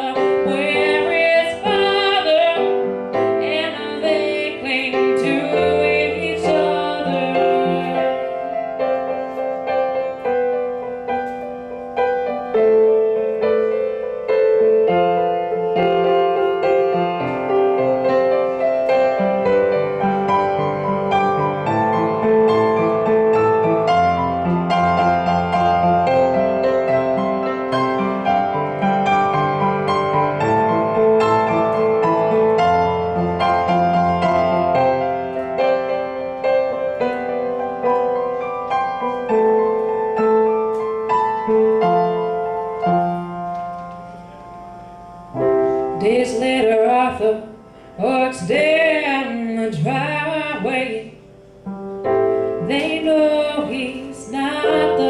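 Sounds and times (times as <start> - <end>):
solo piano ballad: 0.0 - 55.0.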